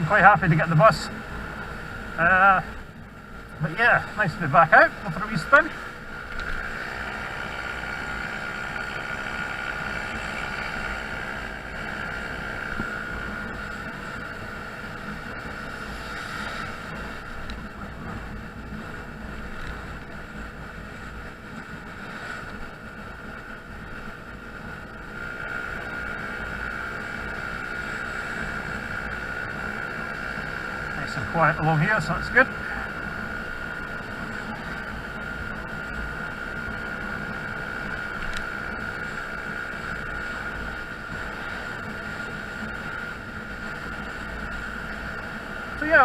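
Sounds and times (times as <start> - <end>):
scooter engine running: 0.0 - 46.0
wind and road noise: 0.0 - 46.0.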